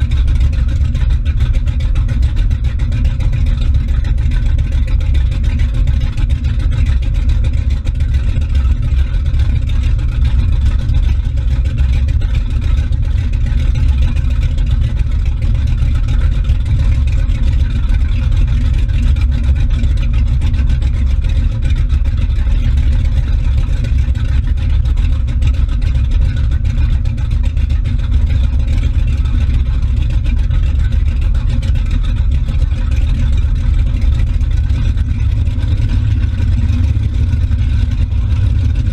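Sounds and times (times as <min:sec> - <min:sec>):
motorboat engine rumbling: 0:00.0 - 0:38.9
wake churning and splashing: 0:00.0 - 0:38.9.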